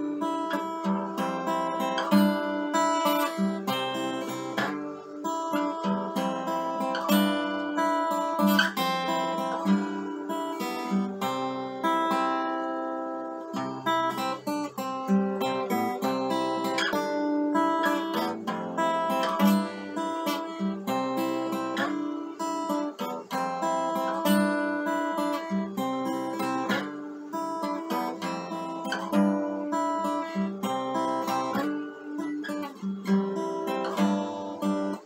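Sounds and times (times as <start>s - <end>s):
acoustic guitar: 0.0s - 35.0s.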